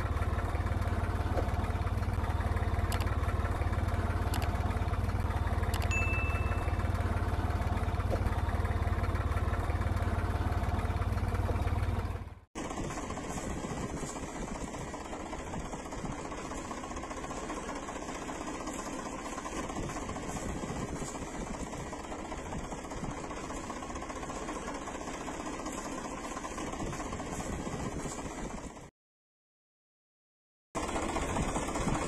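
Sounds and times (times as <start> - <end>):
engine idling: 0.0 - 28.9, 30.8 - 32.0.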